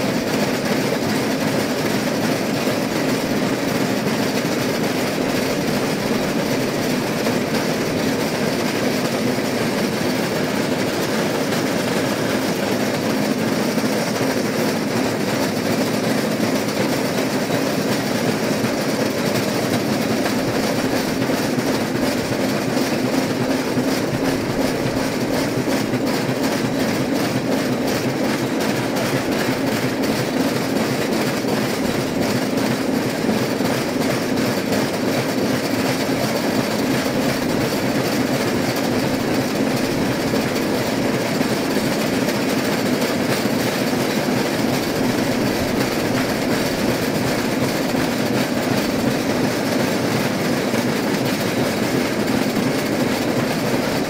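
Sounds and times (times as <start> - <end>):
train rolling on track: 0.0 - 54.0.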